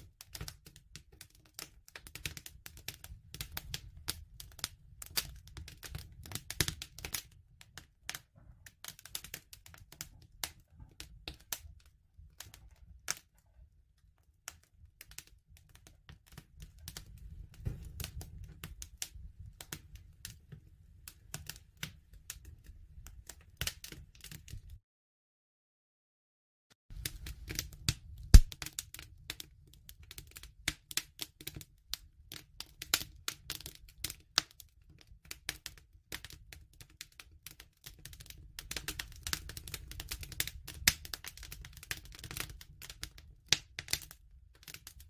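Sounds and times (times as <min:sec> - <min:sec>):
bonfire pops and snaps: 0:00.0 - 0:13.3, 0:14.5 - 0:20.4, 0:21.0 - 0:24.8, 0:26.9 - 0:45.0
low rumble of fire: 0:00.0 - 0:24.8, 0:26.9 - 0:45.0.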